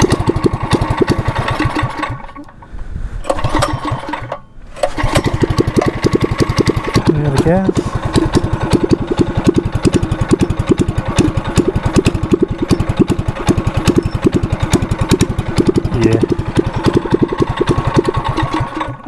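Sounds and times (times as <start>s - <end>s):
mini bike engine idling: 0.0s - 2.7s, 3.3s - 19.0s.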